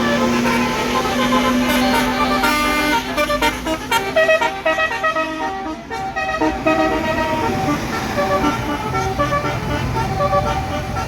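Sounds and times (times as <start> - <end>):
bus engine running: 0.0 - 11.0
multi-tone air horn tune: 0.0 - 11.0.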